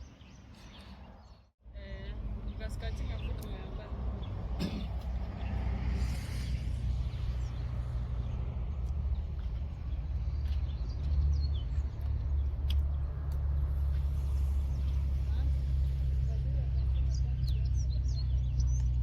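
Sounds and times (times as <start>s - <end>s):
steady low rumble: 1.7s - 19.0s.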